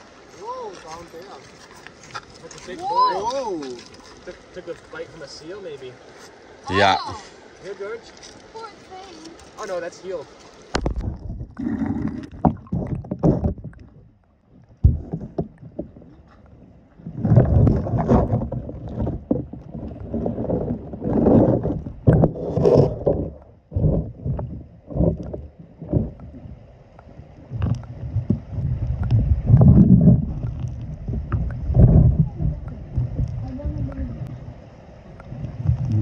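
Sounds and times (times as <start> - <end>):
water splashing and sloshing: 0.0 - 36.0.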